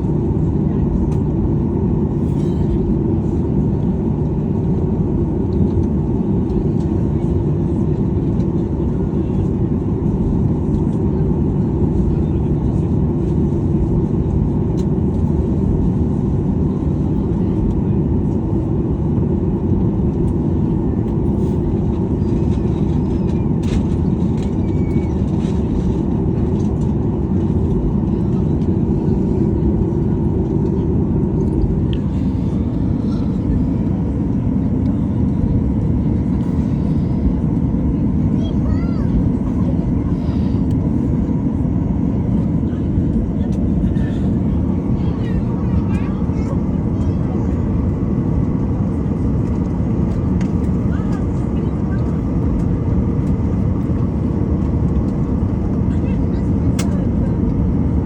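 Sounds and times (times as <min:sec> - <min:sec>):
aircraft cabin low rumble: 0:00.0 - 0:58.0.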